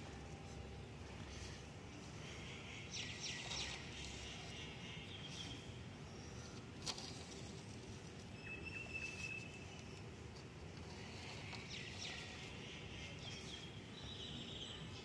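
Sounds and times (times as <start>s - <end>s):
faint birds chirping: 0.0s - 15.0s
low steady noise: 0.0s - 15.0s.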